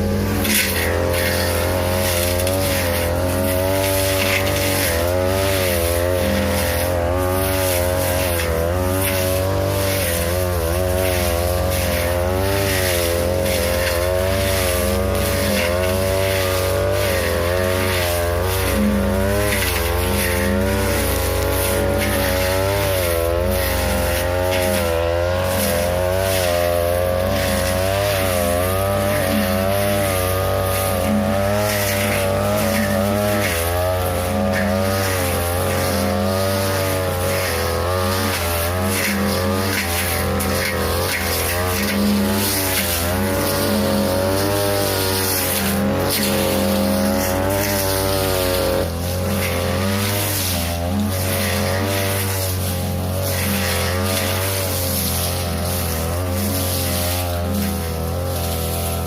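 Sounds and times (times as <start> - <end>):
blade cutting grass and saplings: 0.0 - 59.0
brush cutter engine revving: 0.0 - 59.0.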